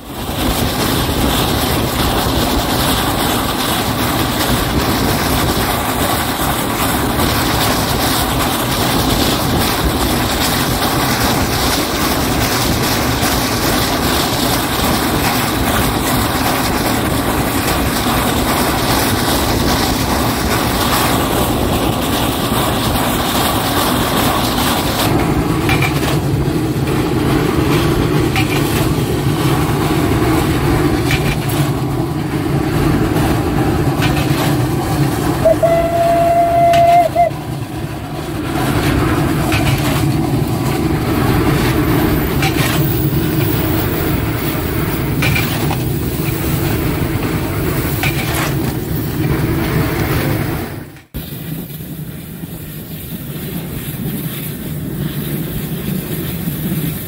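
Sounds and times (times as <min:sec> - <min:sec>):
train running: 0:00.0 - 0:57.0.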